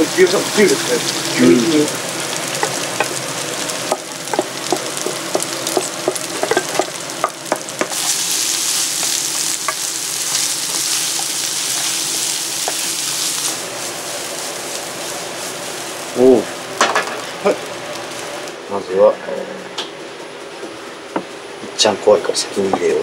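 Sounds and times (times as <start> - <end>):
meat sizzling in a pan: 0.0 - 18.6.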